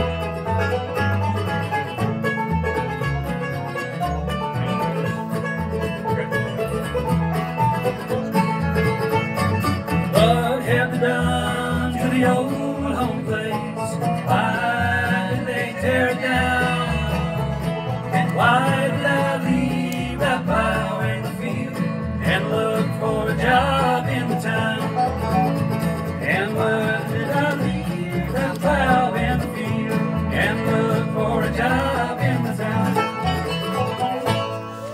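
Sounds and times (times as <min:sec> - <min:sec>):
acoustic guitar: 0:00.0 - 0:34.9
banjo: 0:00.0 - 0:34.9
upright bass: 0:00.0 - 0:34.9.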